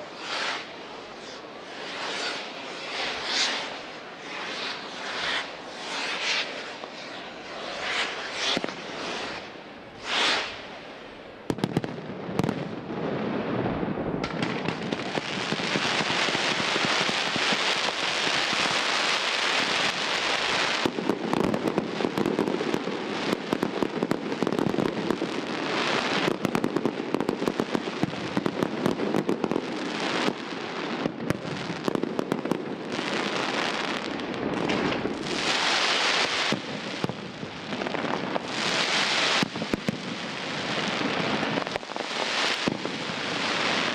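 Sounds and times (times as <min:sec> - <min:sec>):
fireworks crackling and popping: 0:00.0 - 0:43.9.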